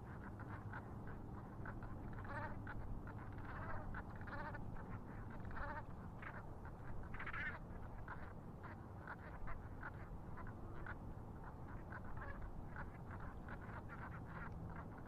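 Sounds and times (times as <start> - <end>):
water birds calling: 0.0 - 15.0.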